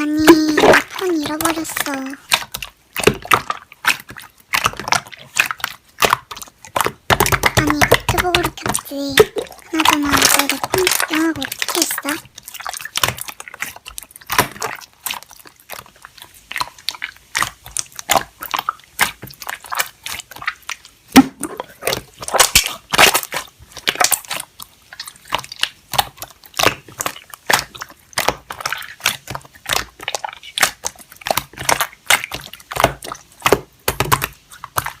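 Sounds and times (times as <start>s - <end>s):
slime squishing and popping: 0.0s - 35.0s.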